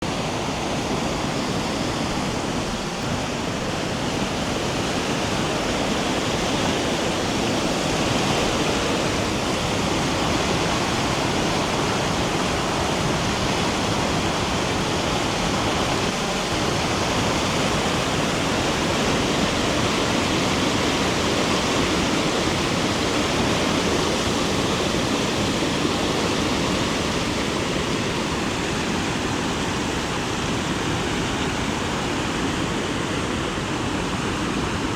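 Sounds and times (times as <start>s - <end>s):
loud rushing river water: 0.0s - 34.9s.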